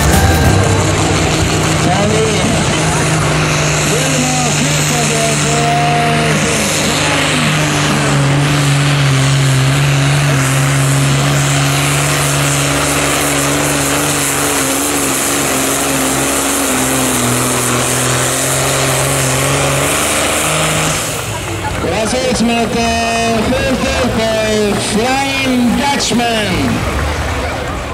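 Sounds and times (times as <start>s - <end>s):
tractor engine at high revs: 0.0s - 27.9s.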